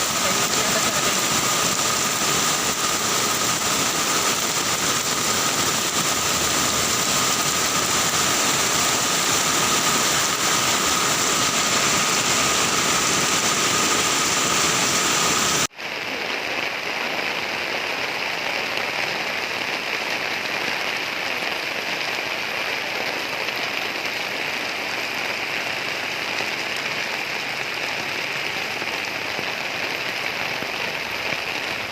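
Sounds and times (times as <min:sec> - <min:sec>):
steady rain hiss: 0:00.0 - 0:31.9.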